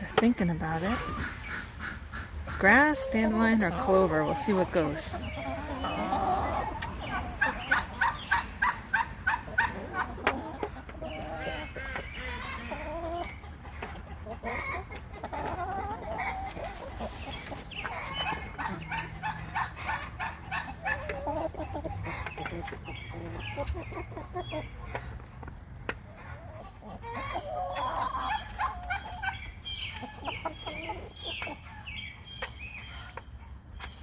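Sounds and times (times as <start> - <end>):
hens clucking: 0.0 - 34.0.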